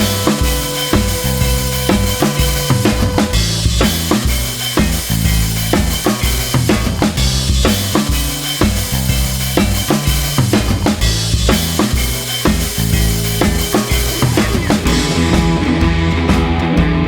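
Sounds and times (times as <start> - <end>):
bass line: 0.0 - 17.0
drum kit beat: 0.0 - 17.0.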